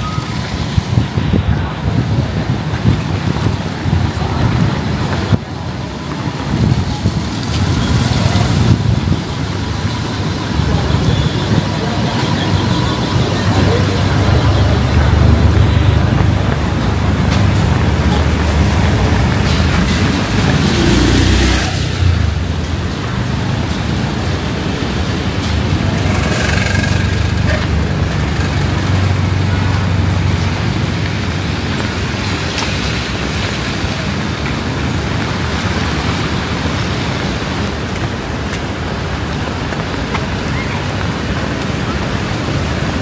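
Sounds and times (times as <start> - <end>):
road traffic engines: 0.0 - 43.0
steady rain: 0.0 - 43.0.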